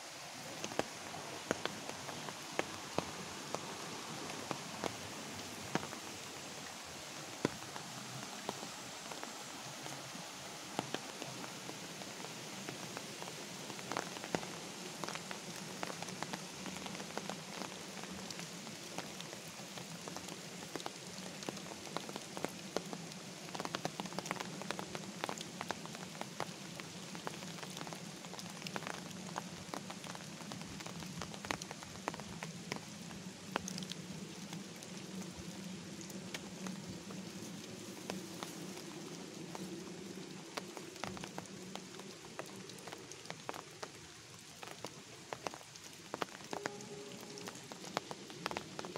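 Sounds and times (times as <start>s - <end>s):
light rain pattering on pavement: 0.0s - 48.9s.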